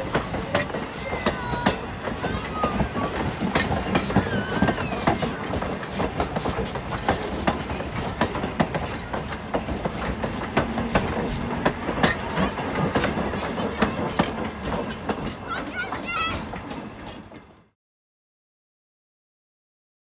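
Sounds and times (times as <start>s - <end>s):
train rumble: 0.0s - 17.7s
train wheels clicking over rail joints: 0.0s - 17.7s.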